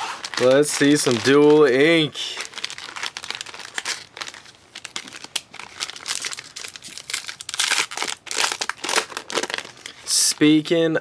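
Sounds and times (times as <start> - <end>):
wrappers crinkling and rustling: 0.0 - 10.5.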